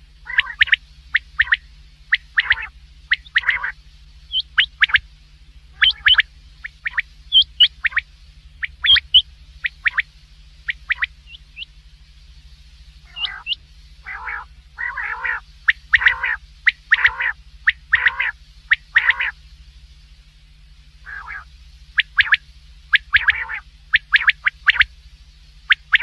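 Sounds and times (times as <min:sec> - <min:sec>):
low steady hum: 0:00.0 - 0:26.0
quail calling: 0:00.2 - 0:05.0, 0:05.7 - 0:11.7, 0:13.0 - 0:19.4, 0:21.0 - 0:24.9, 0:25.7 - 0:26.0.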